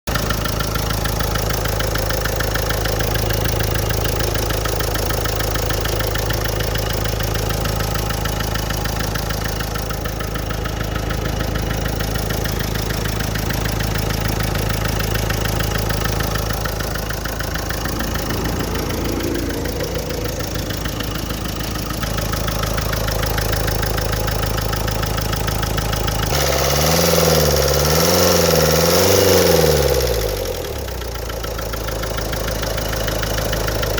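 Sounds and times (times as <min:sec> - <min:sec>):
car engine idling with knocking: 0:00.0 - 0:33.9.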